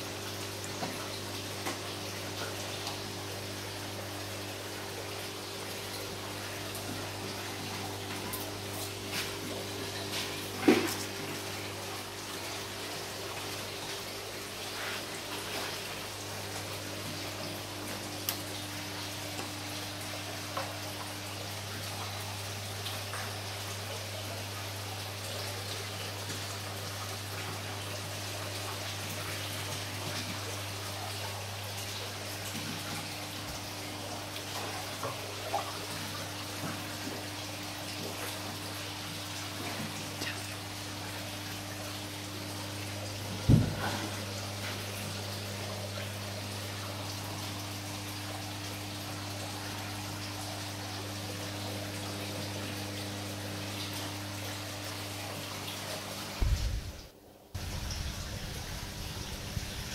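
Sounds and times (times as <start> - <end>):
moving water wash: 0.0 - 59.9.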